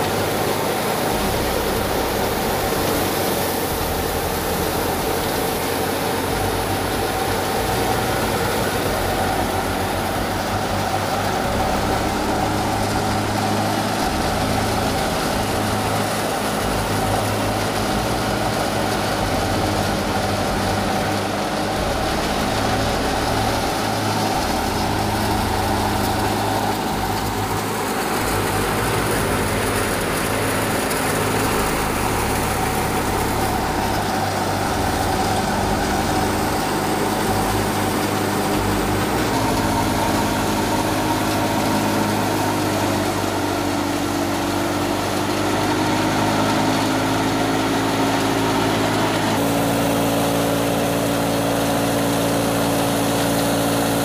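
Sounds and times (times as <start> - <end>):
thresher and engine running: 0.0 - 54.0.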